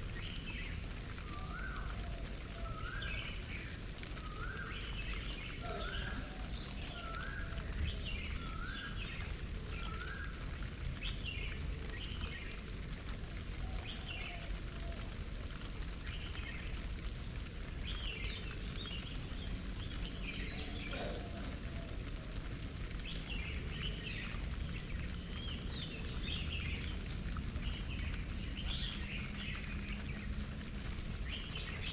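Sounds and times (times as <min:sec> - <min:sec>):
birds chirping: 0:00.2 - 0:12.7, 0:17.8 - 0:31.9.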